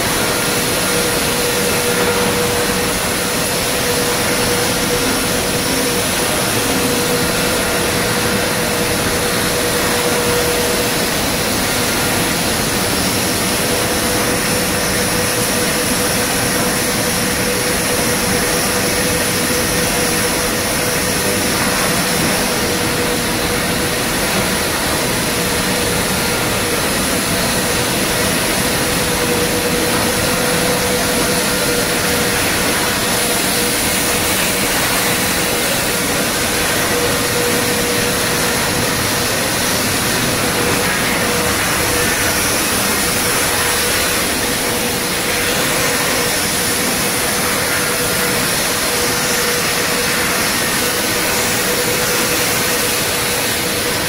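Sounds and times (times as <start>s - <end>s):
factory machinery running: 0.0s - 54.0s.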